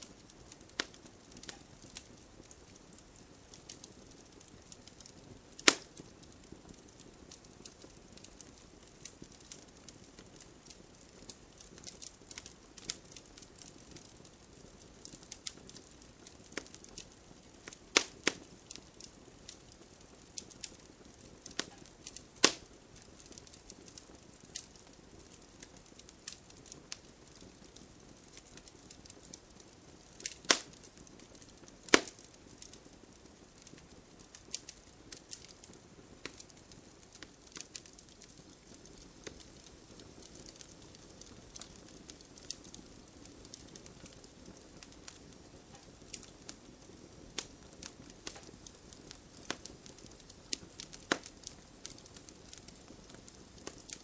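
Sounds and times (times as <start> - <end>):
bonfire crackling and popping: 0.0 - 54.0
light rain hiss: 0.0 - 54.0.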